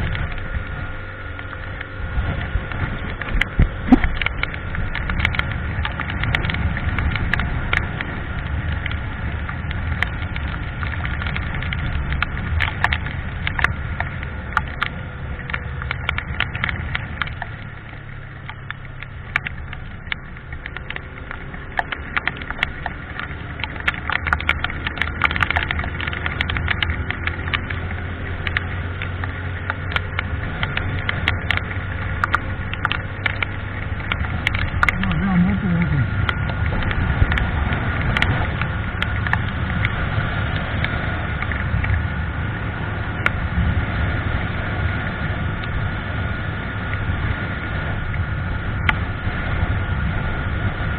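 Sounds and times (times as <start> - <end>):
motorcycle engine running: 0.0 - 50.9
sharp crackles and clicks: 0.0 - 50.9.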